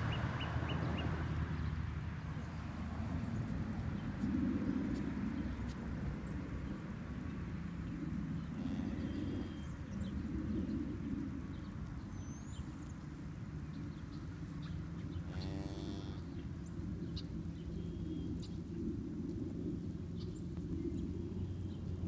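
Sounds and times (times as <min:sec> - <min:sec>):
small birds chirping: 0:00.0 - 0:18.7
steady low rumble: 0:00.0 - 0:22.0.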